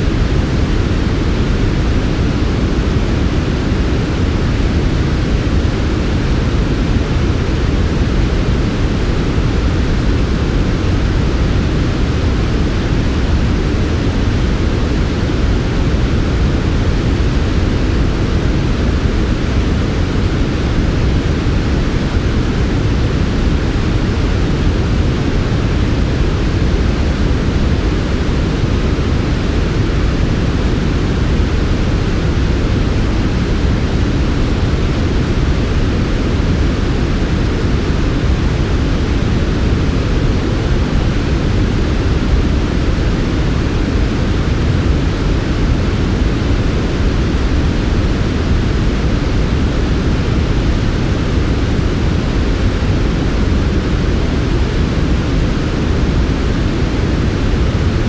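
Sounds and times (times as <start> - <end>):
synthetic low hiss noise: 0.0 - 58.0.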